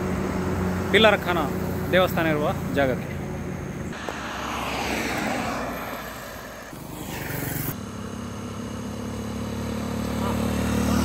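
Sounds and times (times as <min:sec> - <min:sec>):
steady engine hum: 0:00.0 - 0:11.0
vehicle passing by: 0:00.0 - 0:11.0.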